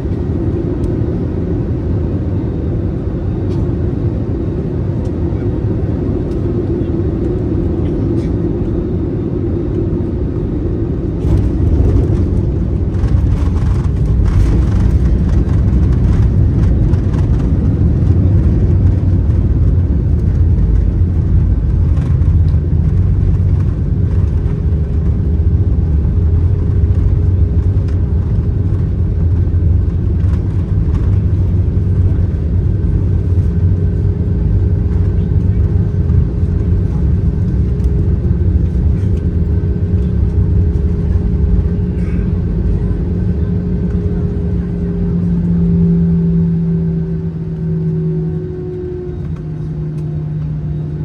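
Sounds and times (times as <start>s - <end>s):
aircraft cabin engine rumble: 0.0s - 51.0s.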